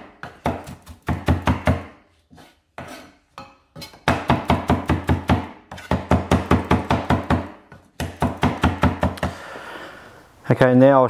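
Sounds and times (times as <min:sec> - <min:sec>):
knife chopping on wooden board: 0:00.0 - 0:09.4.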